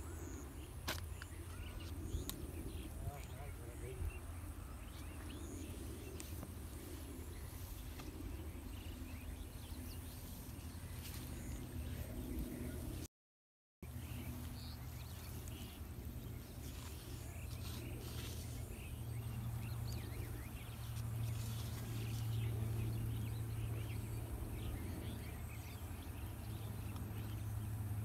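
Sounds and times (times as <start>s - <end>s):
small birds chirping: 0.0s - 13.1s, 13.9s - 28.0s
steady low hum: 0.0s - 13.1s, 13.8s - 28.0s.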